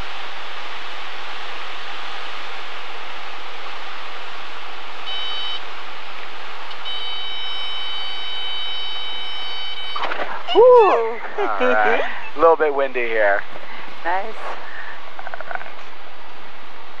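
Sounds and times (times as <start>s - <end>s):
light airplane engine and airflow: 0.0s - 17.0s.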